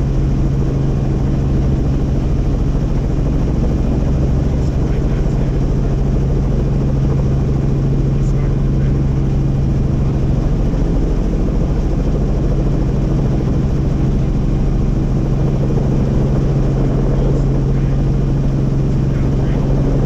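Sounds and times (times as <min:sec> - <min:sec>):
helicopter drone: 0:00.0 - 0:20.0.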